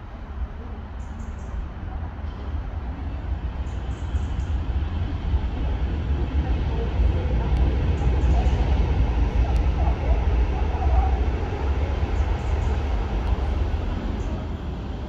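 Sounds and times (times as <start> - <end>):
diesel train rumble: 0.0 - 15.0.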